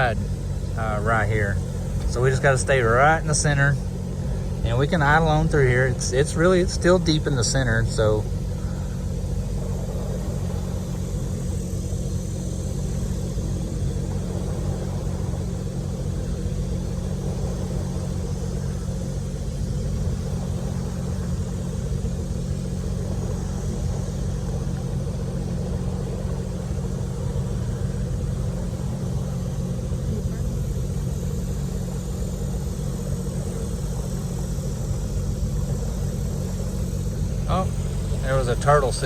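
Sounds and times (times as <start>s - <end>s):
boat motor idling: 0.0s - 39.0s.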